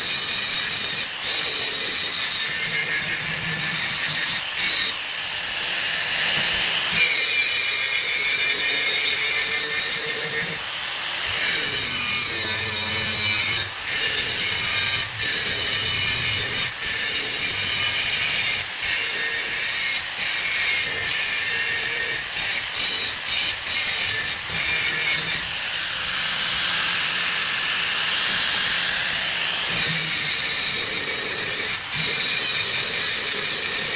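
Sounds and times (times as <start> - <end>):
loud machine noise with whine: 0.0 - 33.9.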